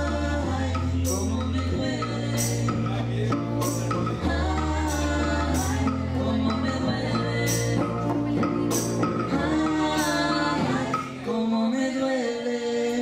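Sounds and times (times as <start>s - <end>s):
keyboard: 0.0s - 13.0s
person singing: 0.0s - 13.0s.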